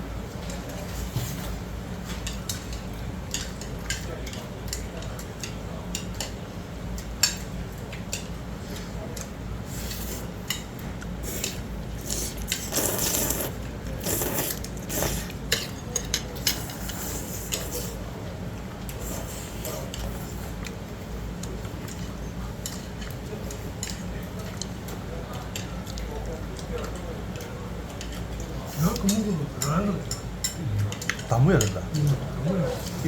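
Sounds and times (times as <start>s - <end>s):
chopsticks and spoon clinking on bowl: 2.0s - 18.1s, 21.4s - 33.0s.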